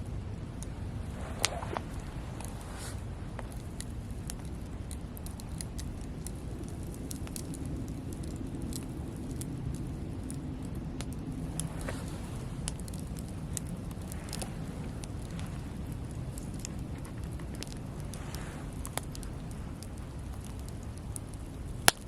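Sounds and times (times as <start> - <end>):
low rumble: 0.0 - 21.9
campfire crackling: 0.0 - 22.0.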